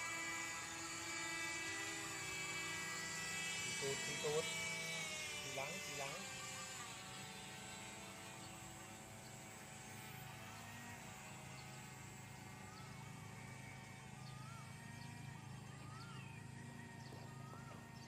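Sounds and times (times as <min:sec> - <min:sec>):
electric motor and propeller hum: 0:00.0 - 0:18.0.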